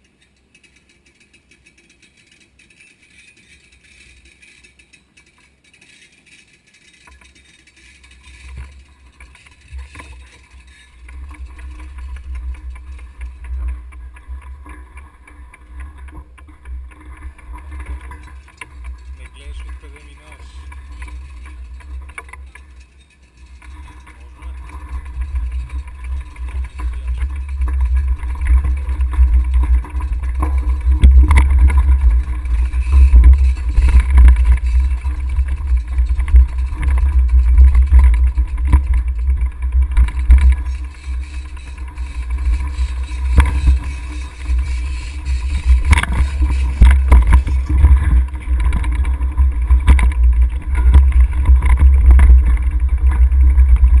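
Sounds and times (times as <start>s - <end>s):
bike rattling over bumps: 0.0s - 54.0s.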